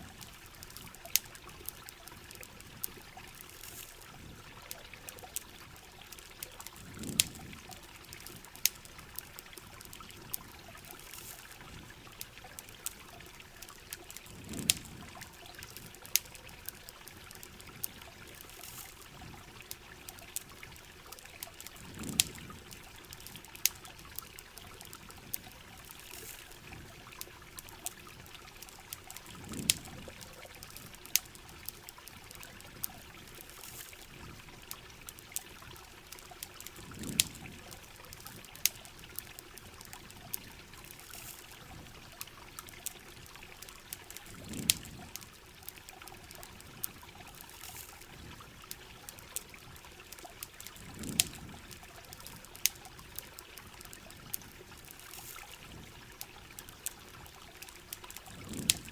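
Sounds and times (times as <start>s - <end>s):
campfire crackling: 0.0s - 58.9s
rain and running water: 0.0s - 58.9s.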